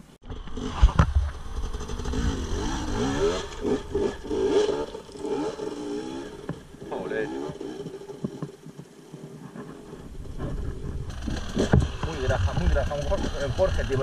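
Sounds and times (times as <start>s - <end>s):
dirt bike engines revving: 0.2s - 14.0s.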